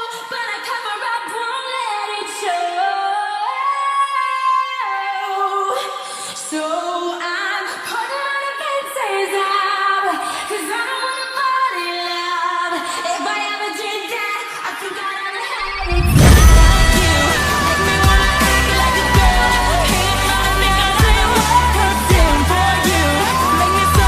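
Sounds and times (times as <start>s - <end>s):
woman singing pop melody: 0.0s - 24.0s.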